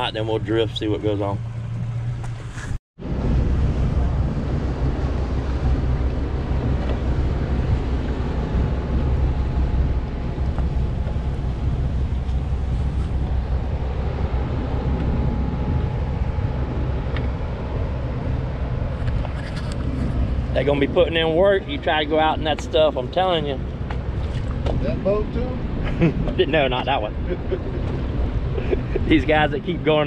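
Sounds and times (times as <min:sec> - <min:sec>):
strong wind on microphone: 0:03.0 - 0:30.0.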